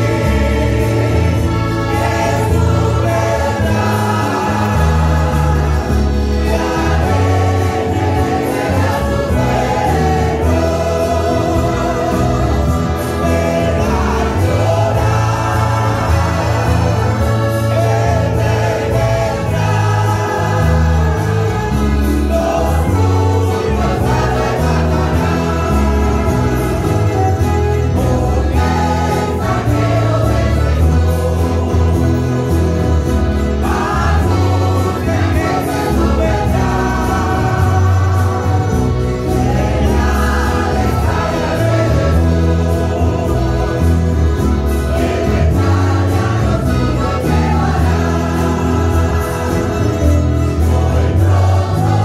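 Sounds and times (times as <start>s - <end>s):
church choir singing a hymn: 0.0s - 52.0s
low bass notes: 0.0s - 52.0s
strummed mandolins and guitars: 0.0s - 52.0s.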